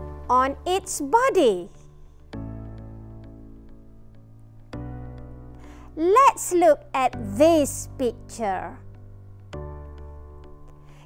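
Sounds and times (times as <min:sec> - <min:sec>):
gentle chords: 0:00.0 - 0:11.0.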